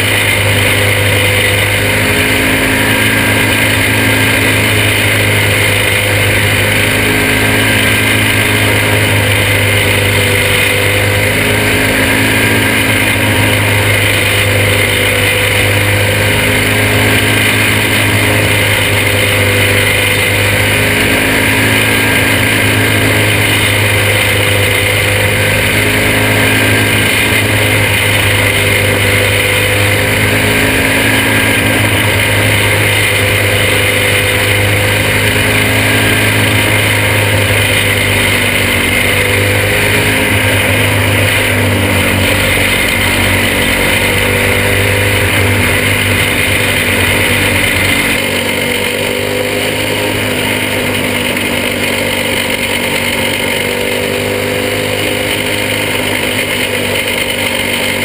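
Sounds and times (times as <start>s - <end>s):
kart engine running: 0.0s - 58.0s.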